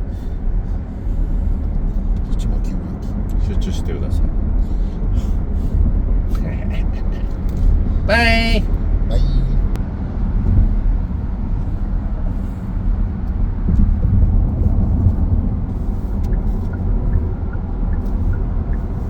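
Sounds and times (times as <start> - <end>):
road and engine rumble inside car: 0.0 - 19.0.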